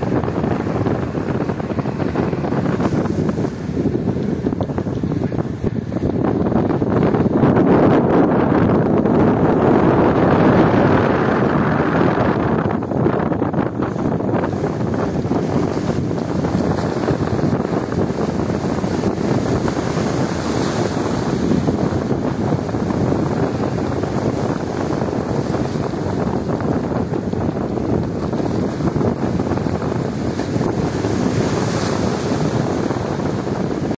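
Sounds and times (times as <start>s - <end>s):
waves breaking against concrete: 0.0s - 7.6s, 8.5s - 34.0s
wind buffeting microphone: 0.0s - 34.0s.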